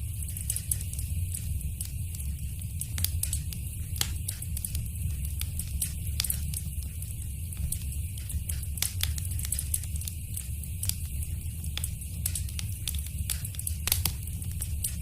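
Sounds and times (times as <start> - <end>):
fireplace fire crackling and popping: 0.0 - 15.0
low steady rumble: 0.0 - 15.0.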